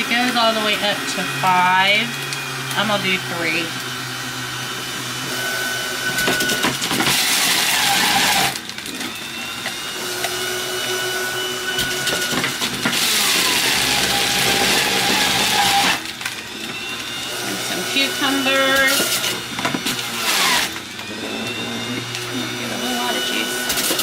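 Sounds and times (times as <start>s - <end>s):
juice extractor motor whine: 0.0s - 24.0s
produce grinding: 0.0s - 24.0s.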